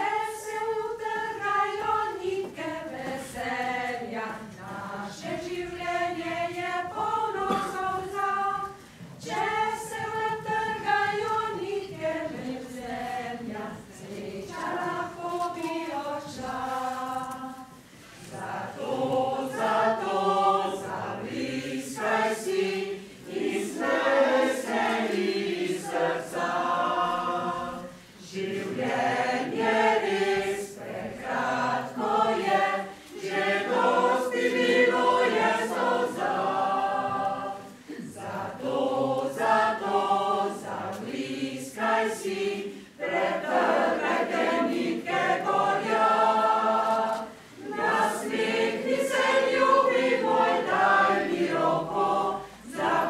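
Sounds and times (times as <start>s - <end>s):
choir singing unaccompanied: 0.0s - 53.0s.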